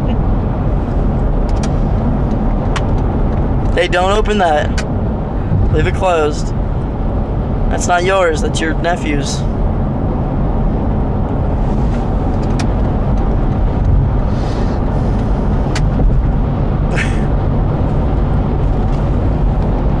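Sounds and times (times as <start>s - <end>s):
car rumbling from inside: 0.0s - 20.0s.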